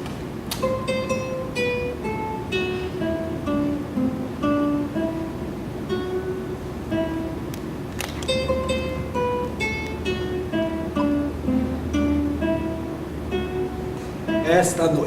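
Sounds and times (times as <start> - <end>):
slow plucked string melody: 0.5 - 15.0.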